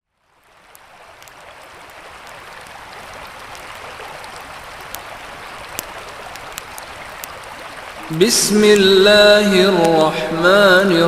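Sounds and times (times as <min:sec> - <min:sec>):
campfire crackling: 0:00.1 - 0:11.0
river water rushing: 0:00.2 - 0:11.0.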